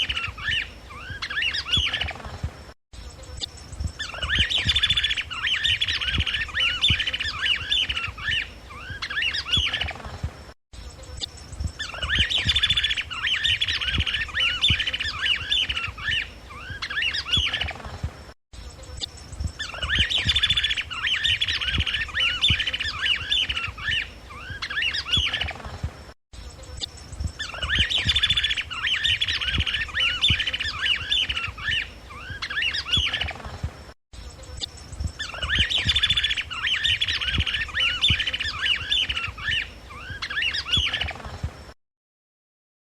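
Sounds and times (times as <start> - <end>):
bird singing rapid chattering notes: 3.0 - 10.0, 10.8 - 17.8, 18.6 - 25.6, 26.4 - 33.5, 34.2 - 41.4.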